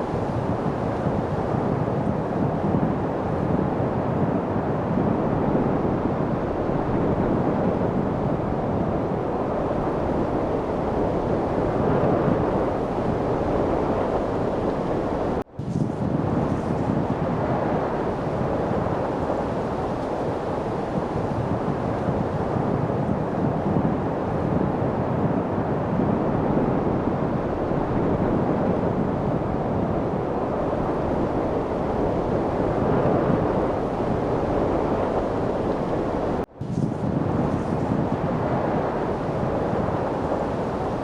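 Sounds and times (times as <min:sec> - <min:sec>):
steady light wind: 0:00.0 - 0:41.0.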